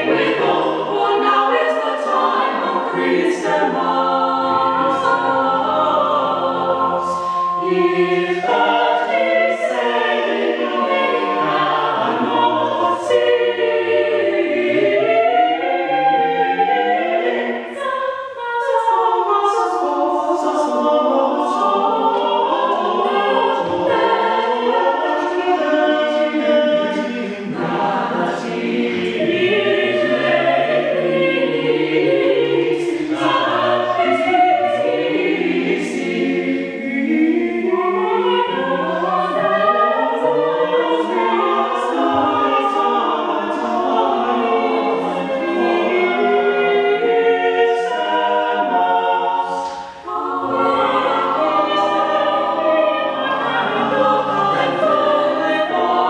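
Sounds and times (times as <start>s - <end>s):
choir singing a carol: 0.0s - 56.0s.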